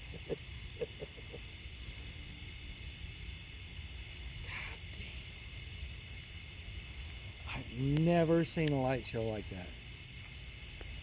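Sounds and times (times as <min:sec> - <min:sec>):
crickets and night insects: 0:00.0 - 0:11.0.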